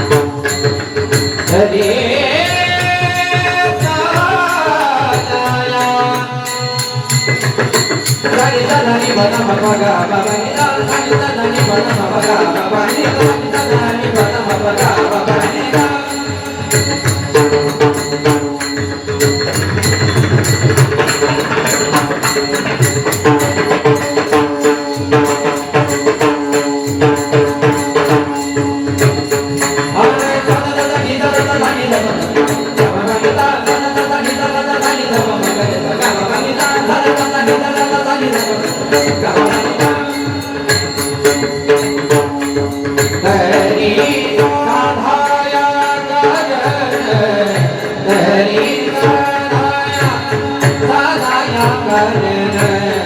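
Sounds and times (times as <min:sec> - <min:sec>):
drum playing fast rhythm: 0:00.0 - 0:53.0
metallic percussion strokes: 0:00.0 - 0:53.0
person singing: 0:01.5 - 0:18.7, 0:20.9 - 0:53.0.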